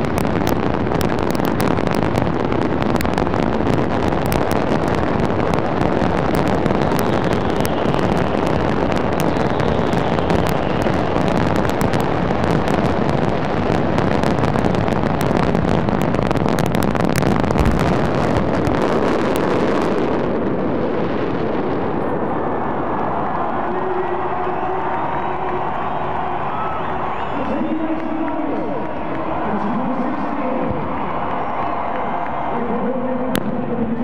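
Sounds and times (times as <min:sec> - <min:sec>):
rushing wash of noise: 0:00.0 - 0:31.2
fireworks crackling: 0:00.0 - 0:34.0.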